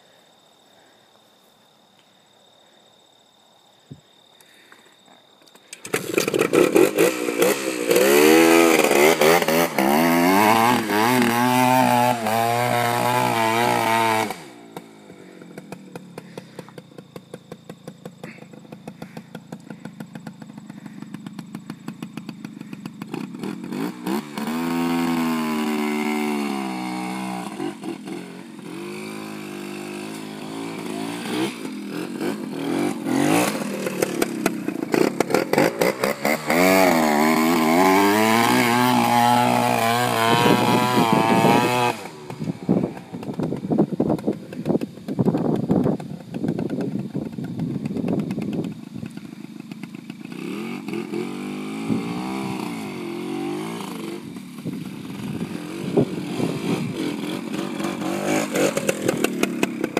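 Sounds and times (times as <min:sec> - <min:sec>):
dirt bike engine revving: 0:05.8 - 0:59.9.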